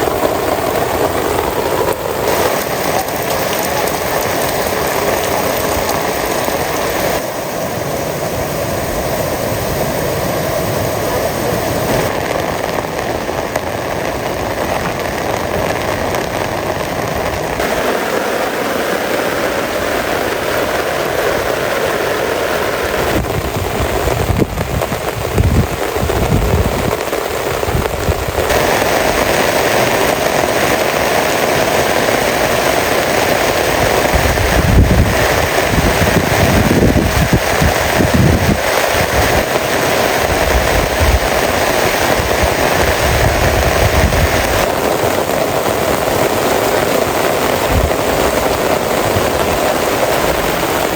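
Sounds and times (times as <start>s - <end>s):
heavy rain pouring: 0.0s - 50.9s
low rumbling surges: 0.0s - 50.9s.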